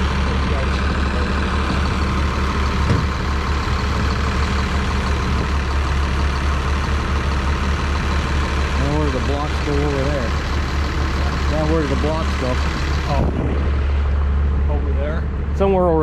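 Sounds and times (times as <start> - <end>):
heavy engine idling: 0.0 - 16.0.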